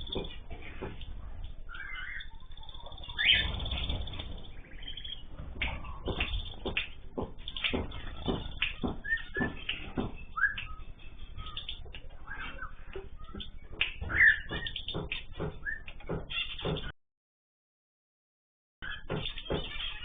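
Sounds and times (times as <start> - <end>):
cage birds chirping: 0.0 - 17.0, 18.8 - 20.0.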